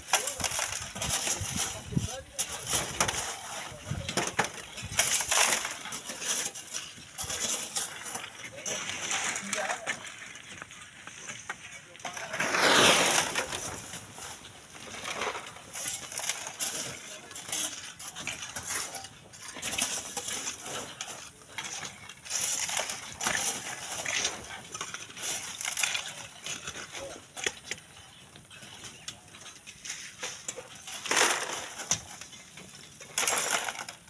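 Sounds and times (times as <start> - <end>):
hand tools digging into sand and stones: 0.0 - 10.4, 12.0 - 28.2, 28.8 - 34.0.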